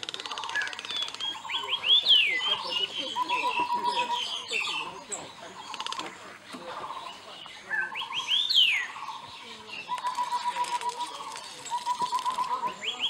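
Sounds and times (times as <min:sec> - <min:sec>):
birds chirping and calling: 0:00.0 - 0:13.0
rapid bird trill: 0:00.0 - 0:13.0.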